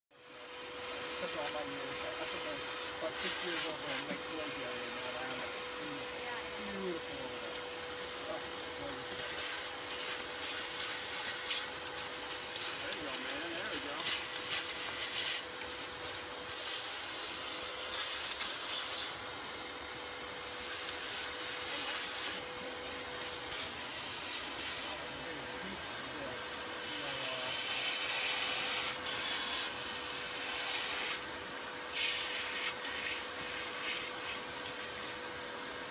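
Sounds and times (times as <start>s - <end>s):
shop vacuum whining: 0.2s - 35.9s.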